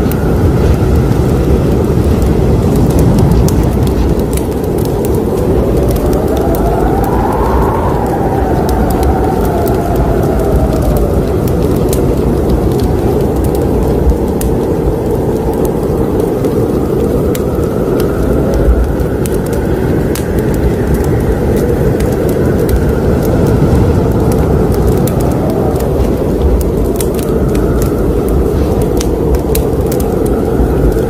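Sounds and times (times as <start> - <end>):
fire crackles and pops: 0.0 - 31.0
fire low rushing: 0.0 - 31.0.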